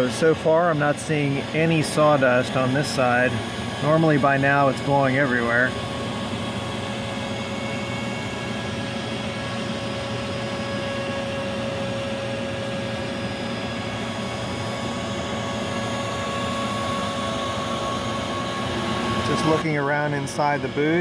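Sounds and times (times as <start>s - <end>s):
router cutting wood: 0.0s - 21.0s
shop vacuum rushing: 0.0s - 21.0s.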